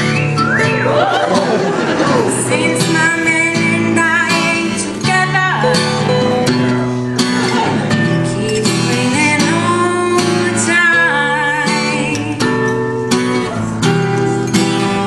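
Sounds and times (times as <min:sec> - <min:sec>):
acoustic guitar strumming: 0:00.0 - 0:15.0
electric guitar: 0:00.0 - 0:15.0
person singing: 0:00.0 - 0:15.0.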